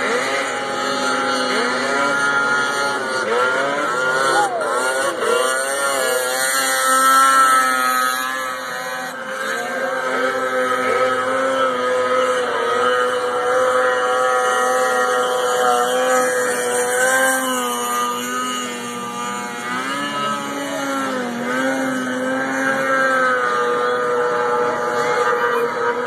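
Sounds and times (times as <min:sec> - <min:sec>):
snowmobile engine at high revs: 0:00.0 - 0:26.0.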